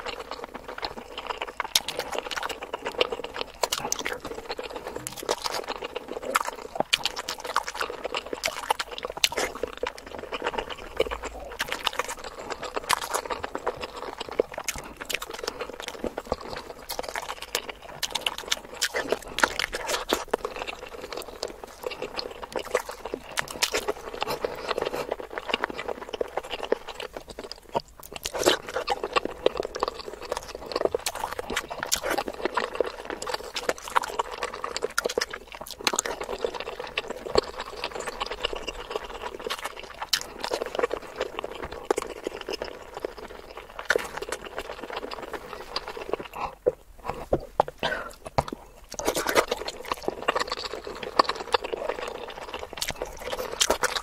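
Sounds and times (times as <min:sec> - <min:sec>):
wet squishy chewing: 0:00.0 - 0:54.0.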